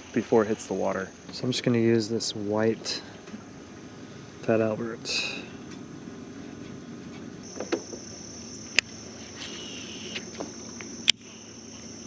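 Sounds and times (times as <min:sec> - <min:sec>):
high-pitched insect drone: 0:00.0 - 0:12.0
low outdoor hum: 0:00.0 - 0:12.0.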